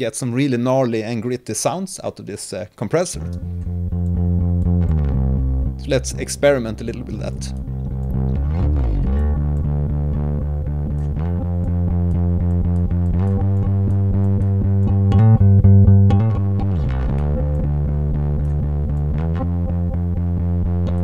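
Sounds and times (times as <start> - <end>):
compressed bass line: 3.1 - 21.0.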